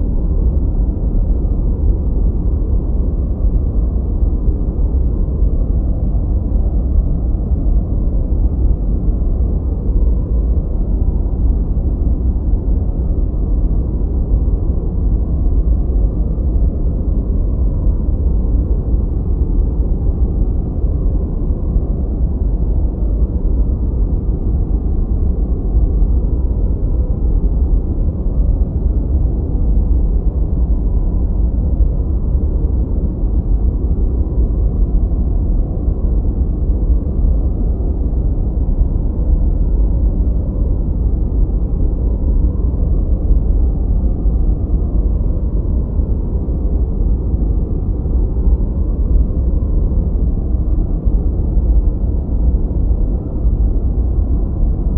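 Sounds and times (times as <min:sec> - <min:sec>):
deep muffled white noise: 0:00.0 - 0:54.9.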